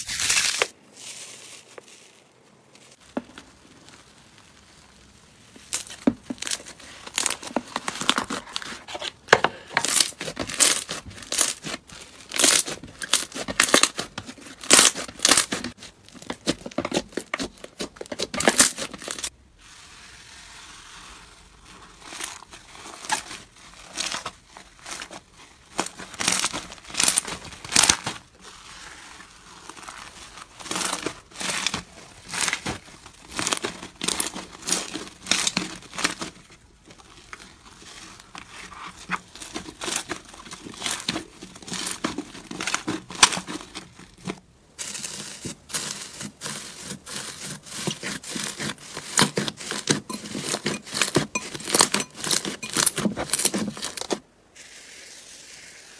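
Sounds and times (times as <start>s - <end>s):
slime squishing and crackling: 1.4s - 54.2s.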